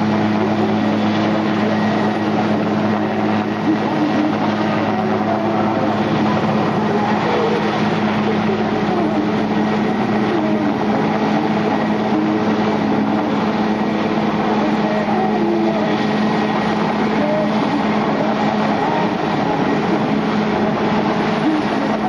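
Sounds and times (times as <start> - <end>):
helicopter hovering: 0.0 - 22.0.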